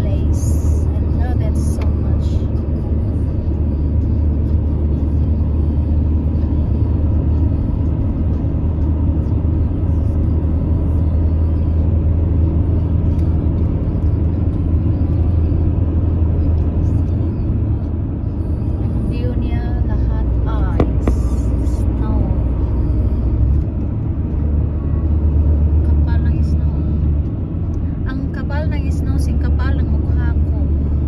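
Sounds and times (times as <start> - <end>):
car engine rumble: 0.0 - 31.0
tyre road noise: 0.0 - 31.0.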